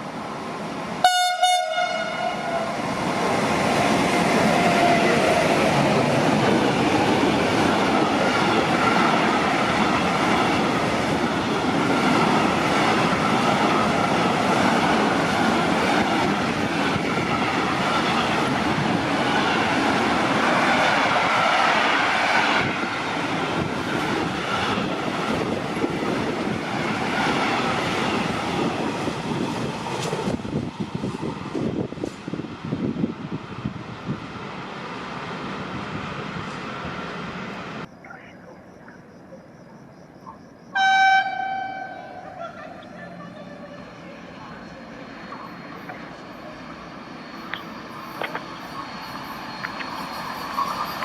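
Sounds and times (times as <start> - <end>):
train passing on rails: 0.0 - 37.9, 40.7 - 51.0.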